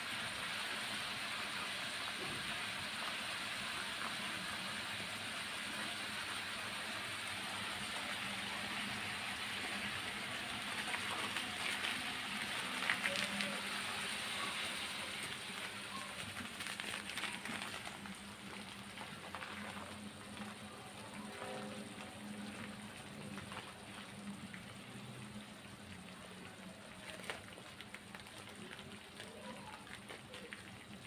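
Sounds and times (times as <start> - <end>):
sauce bubbling and crackling in a pan: 0.0 - 31.0.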